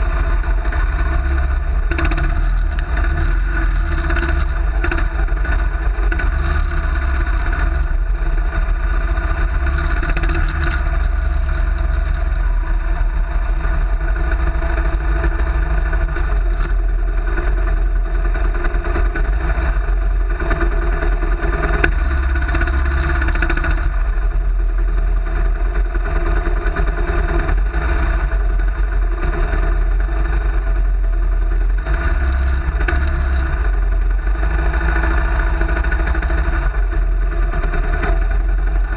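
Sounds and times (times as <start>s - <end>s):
low rumble: 0.0s - 38.9s
motorcycle engine running: 0.0s - 38.9s.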